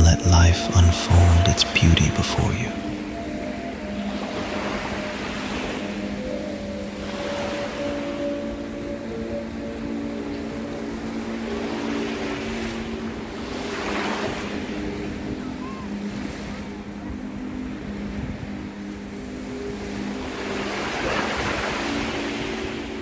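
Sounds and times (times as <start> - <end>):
ocean waves washing up beach: 0.0 - 23.0.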